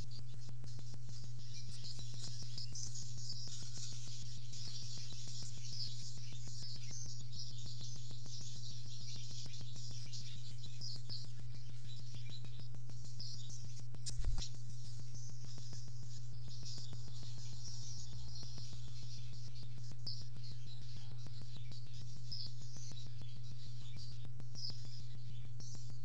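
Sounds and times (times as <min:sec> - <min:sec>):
bird twittering and chirping: 0:00.0 - 0:26.0
steady low hum: 0:00.0 - 0:26.0.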